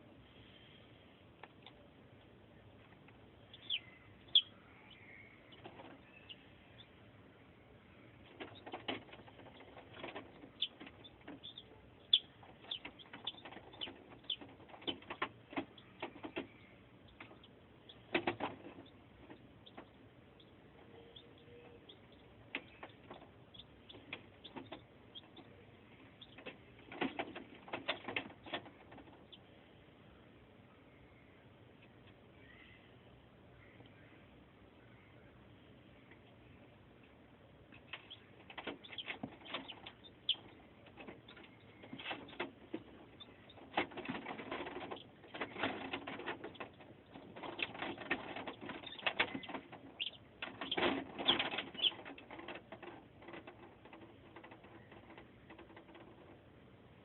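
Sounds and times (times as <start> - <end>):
chicks peeping: 0.4 - 29.6, 36.0 - 56.5.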